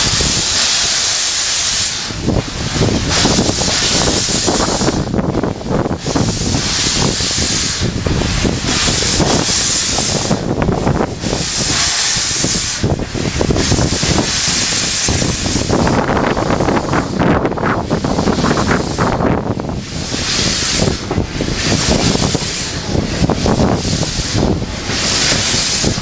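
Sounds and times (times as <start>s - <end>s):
steam hissing: 0.0s - 26.0s
train rumbling: 0.0s - 26.0s.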